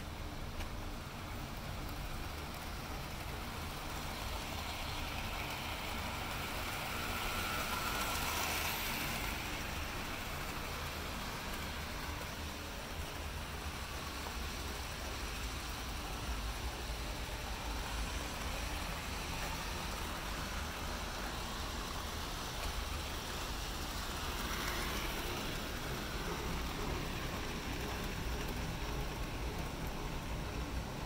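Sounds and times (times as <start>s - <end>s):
model train motors and wheels: 0.0s - 31.0s.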